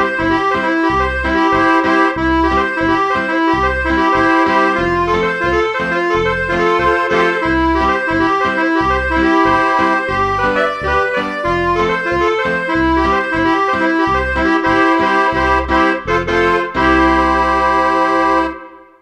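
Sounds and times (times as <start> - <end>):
digital accordion playing a tune: 0.0 - 19.0.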